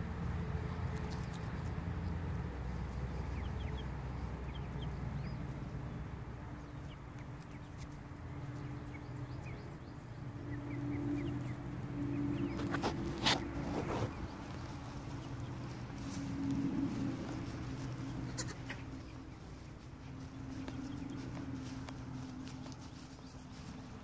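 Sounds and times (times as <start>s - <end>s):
small birds chirping: 0.9s - 24.0s.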